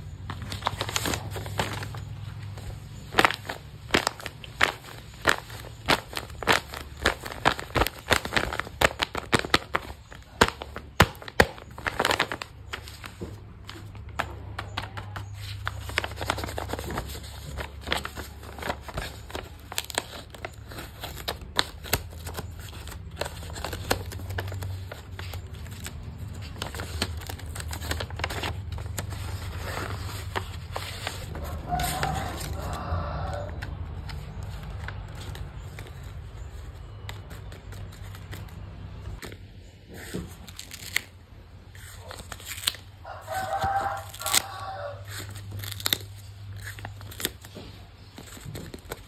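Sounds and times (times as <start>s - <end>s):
plastic wrapping crinkling: 0.0s - 49.0s.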